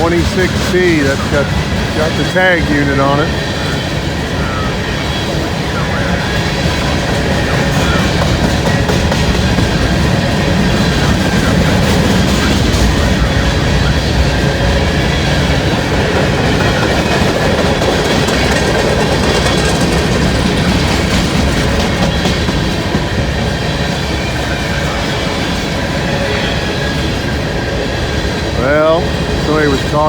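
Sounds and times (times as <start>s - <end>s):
freight train rolling past: 0.0s - 30.0s
wheels clacking over rails: 0.0s - 30.0s.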